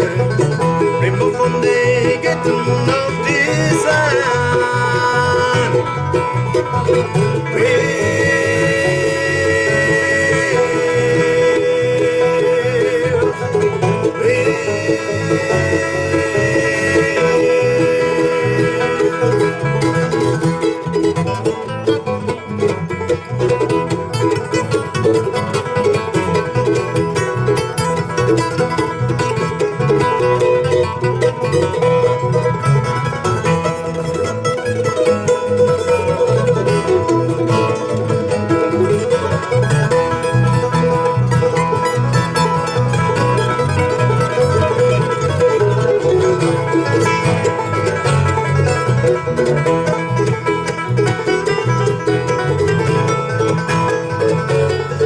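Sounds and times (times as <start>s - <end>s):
banjo picking: 0.0s - 55.0s
strummed acoustic guitar: 0.0s - 55.0s.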